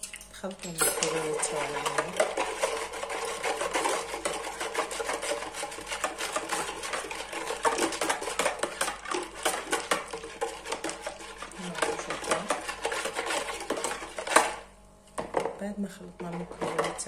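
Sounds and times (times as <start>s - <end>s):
whisk beating water in bowl: 0.9s - 14.7s.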